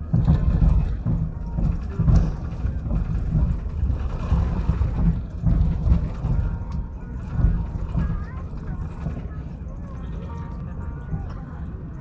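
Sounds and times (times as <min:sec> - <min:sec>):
aircraft wheels rumbling on runway: 0:00.0 - 0:12.0.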